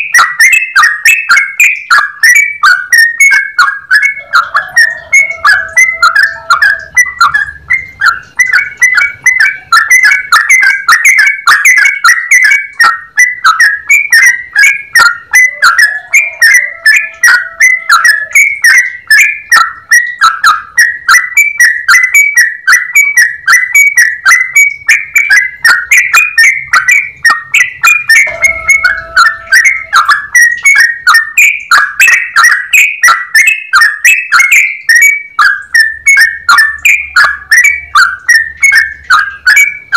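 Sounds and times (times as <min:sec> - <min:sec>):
bird whistled song: 0:00.0 - 0:39.9.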